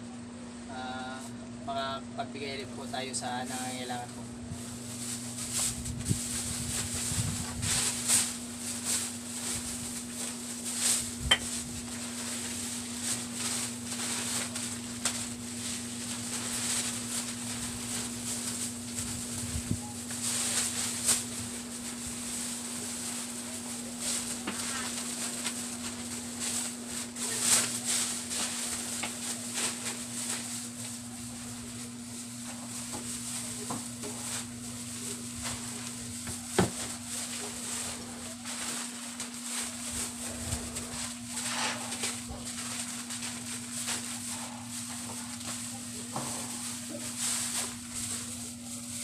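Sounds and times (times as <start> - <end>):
steady low hum: 0.0 - 49.0
plastic bags rustling: 2.4 - 49.0.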